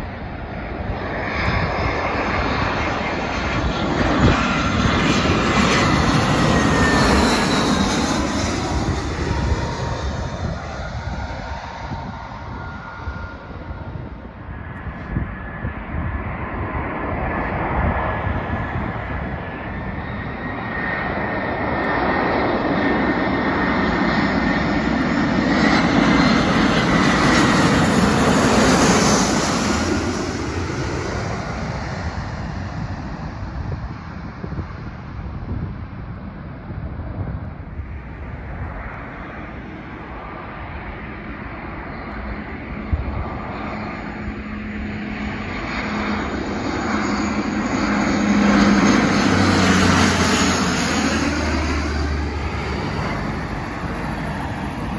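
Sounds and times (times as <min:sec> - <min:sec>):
distant jet noise: 0:00.0 - 0:54.9
jet airliner passing overhead: 0:00.0 - 0:54.9.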